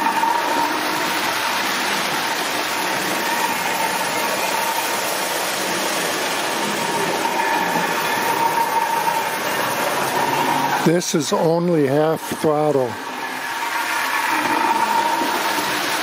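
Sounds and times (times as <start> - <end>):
toy train motors whining: 0.0 - 16.0.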